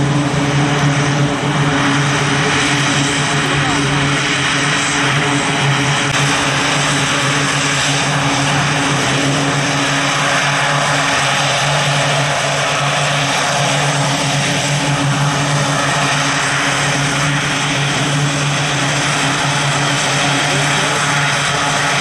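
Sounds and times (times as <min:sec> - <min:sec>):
turboprop engines running: 0:00.0 - 0:22.0.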